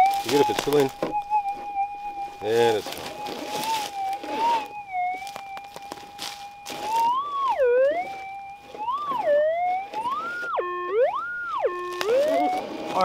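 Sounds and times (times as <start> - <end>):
metal detector tone: 0.0 - 13.0.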